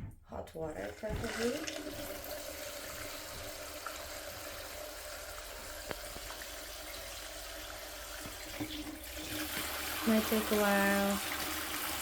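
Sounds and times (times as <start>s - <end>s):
tap water running into bucket: 0.7s - 12.0s.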